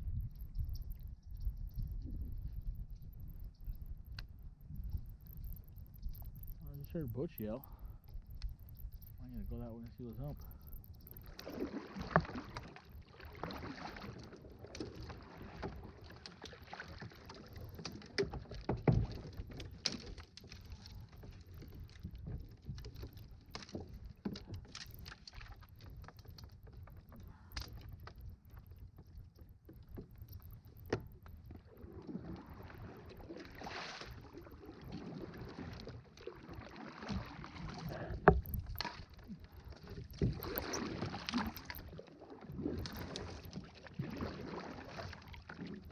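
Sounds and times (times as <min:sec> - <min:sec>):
paddle strokes swishing water: 0:00.4 - 0:45.9.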